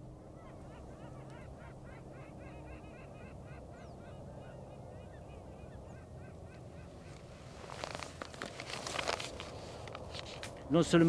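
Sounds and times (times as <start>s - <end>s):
waterbirds calling: 0.0s - 9.1s
low background rumble: 0.0s - 11.0s.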